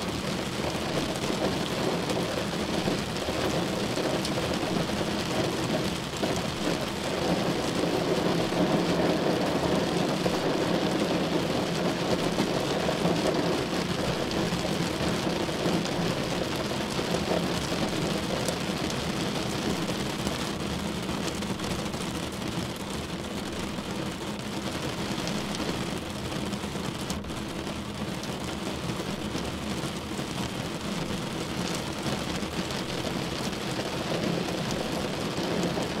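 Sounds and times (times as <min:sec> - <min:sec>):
heavy rain on a car: 0:00.0 - 0:36.0.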